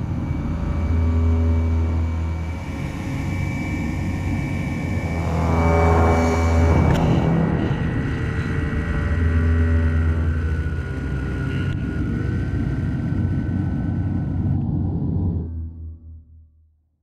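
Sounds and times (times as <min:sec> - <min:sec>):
paramotor engine drone: 0:00.0 - 0:16.5.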